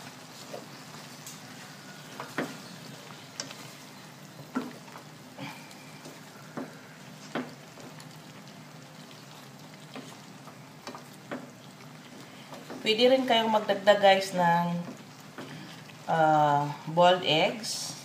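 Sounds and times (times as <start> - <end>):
stew sizzling in a wok: 0.0 - 18.0.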